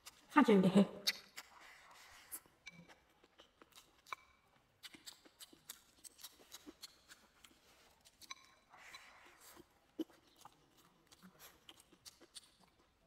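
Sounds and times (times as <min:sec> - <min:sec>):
person chewing: 0:00.0 - 0:00.3, 0:01.0 - 0:13.0.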